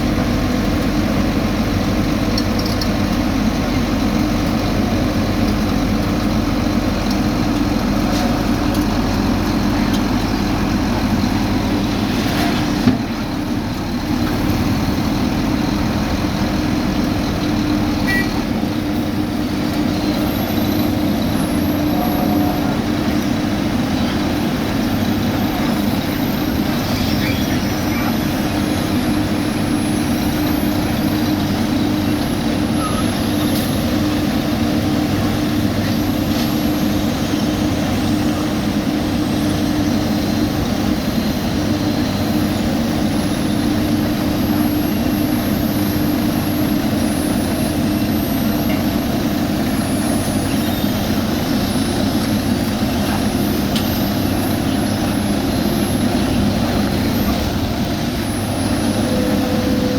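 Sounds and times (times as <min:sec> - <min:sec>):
diesel construction machinery running: 0:00.0 - 0:59.9.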